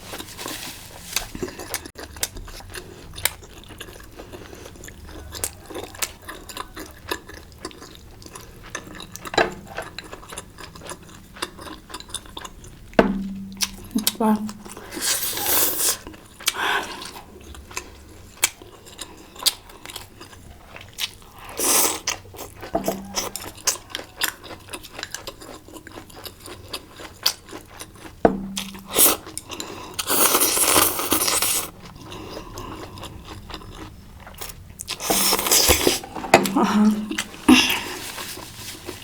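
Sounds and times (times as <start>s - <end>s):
person chewing and crunching: 0.0s - 39.0s.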